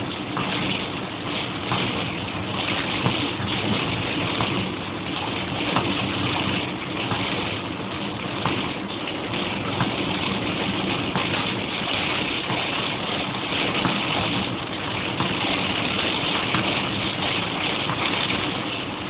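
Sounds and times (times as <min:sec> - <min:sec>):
heavy rain on car: 0:00.0 - 0:19.0
wet road noise: 0:00.0 - 0:19.0.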